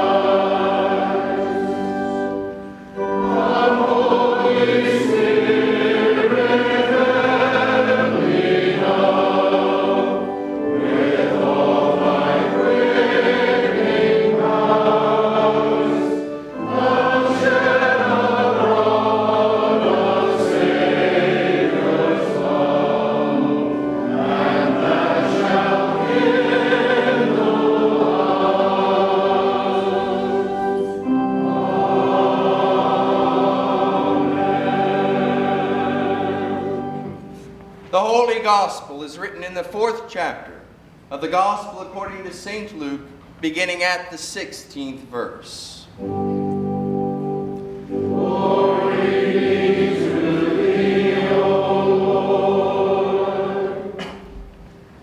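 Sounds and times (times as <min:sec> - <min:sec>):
church choir singing a hymn: 0:00.0 - 0:38.8, 0:46.0 - 0:55.0.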